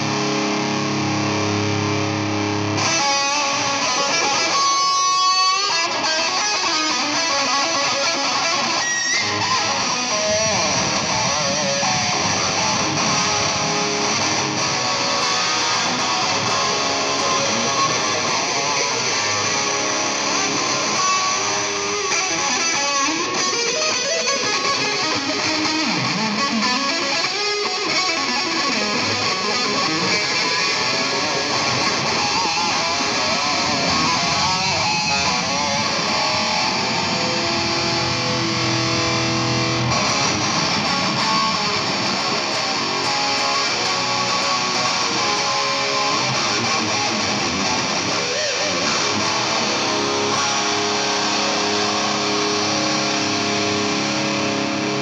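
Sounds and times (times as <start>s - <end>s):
electric guitar music: 0.0s - 55.0s.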